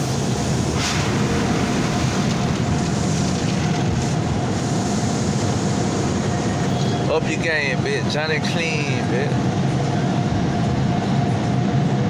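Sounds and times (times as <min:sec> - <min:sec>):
car wash machinery running: 0:00.0 - 0:12.0.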